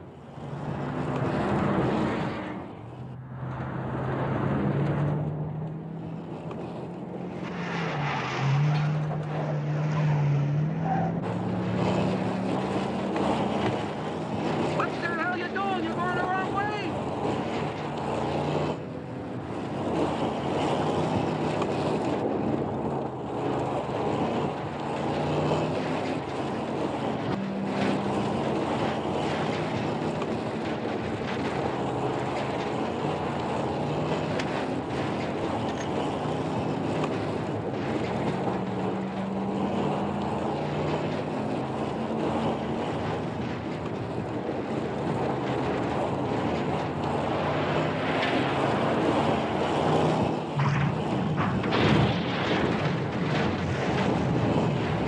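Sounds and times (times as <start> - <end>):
truck engine running hard: 0.0 - 55.0
wind and road noise: 0.0 - 55.0.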